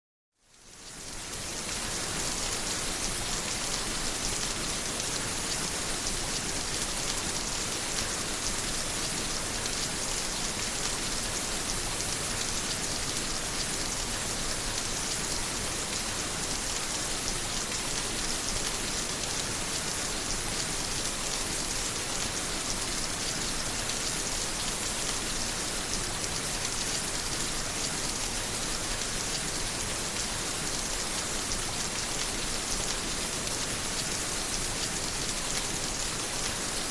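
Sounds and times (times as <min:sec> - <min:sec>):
steady rain falling: 0:00.4 - 0:36.9.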